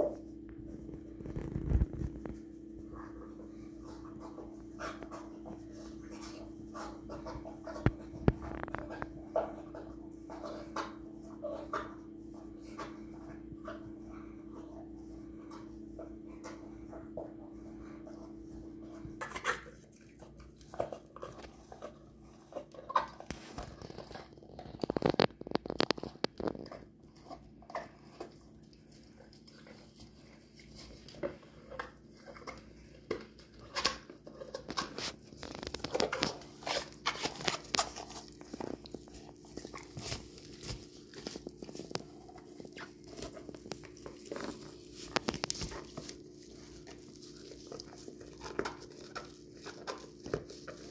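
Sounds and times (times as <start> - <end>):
dog chewing tennis ball: 0.0 - 50.9.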